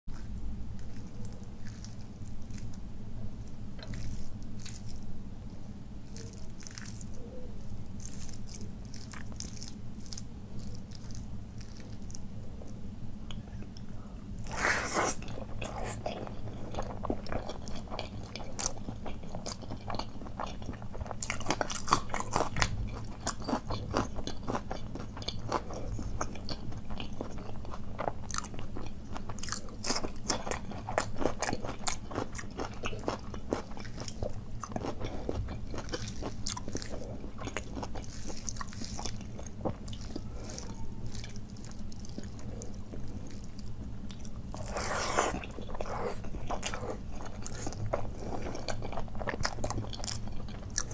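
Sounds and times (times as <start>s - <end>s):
person chewing crunchy food: 0.1s - 50.9s
steady low hum: 0.1s - 50.9s.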